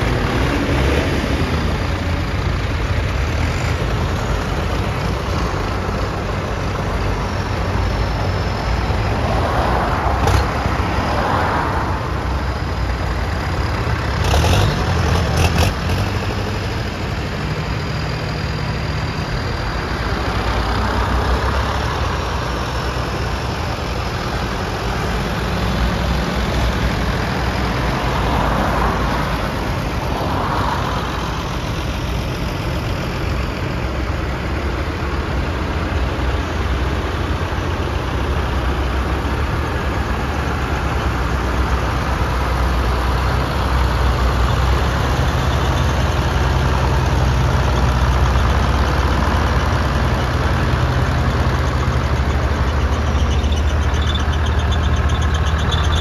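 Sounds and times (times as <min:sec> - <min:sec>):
tractor diesel engines droning: 0:00.0 - 0:56.0.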